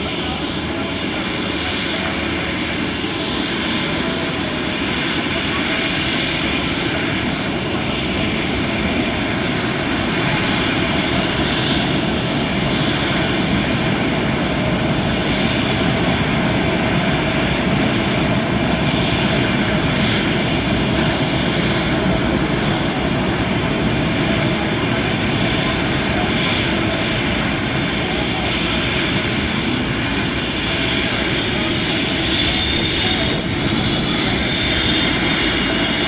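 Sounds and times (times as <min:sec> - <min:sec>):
helicopter engine and rotor: 0:00.0 - 0:36.0.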